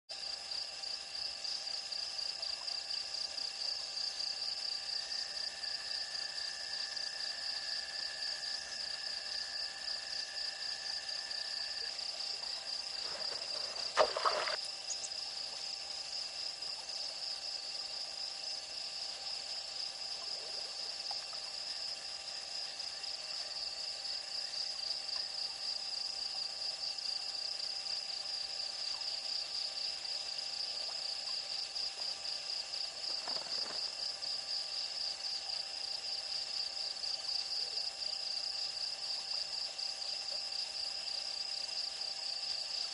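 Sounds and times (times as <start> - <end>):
crickets trilling: 0.1 - 42.9
low steady insect tone: 0.1 - 42.9.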